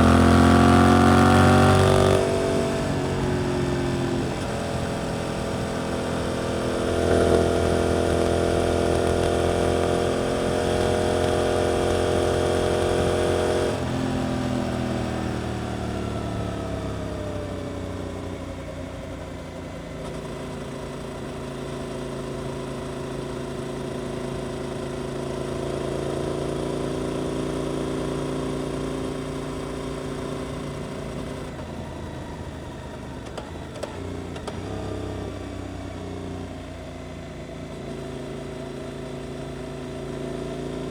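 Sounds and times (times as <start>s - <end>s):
motorcycle engine revving: 0.0s - 18.7s, 23.7s - 40.9s.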